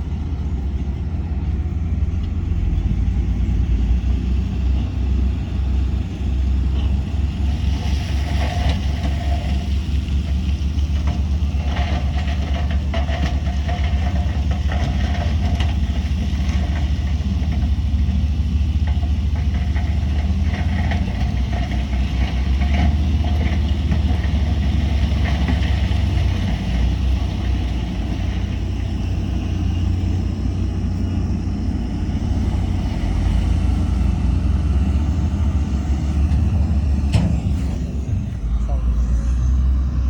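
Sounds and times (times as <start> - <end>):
diesel machinery engine drone: 0.0 - 40.0.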